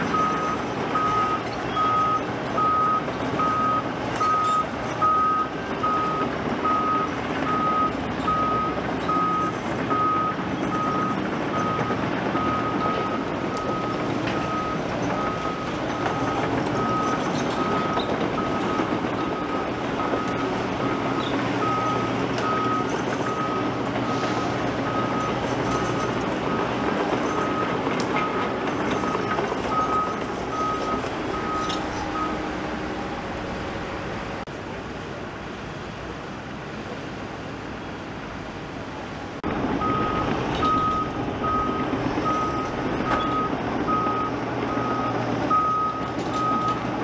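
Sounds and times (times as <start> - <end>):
diesel engine rumble: 0.0 - 47.0
reversing alarm beeping: 0.1 - 32.5, 39.8 - 46.9.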